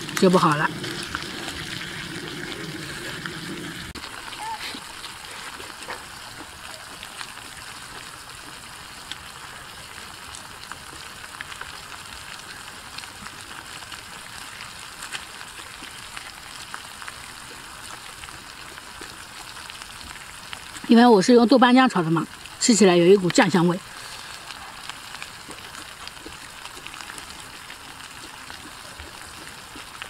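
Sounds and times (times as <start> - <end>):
stir-fry sizzling: 0.0 - 30.0.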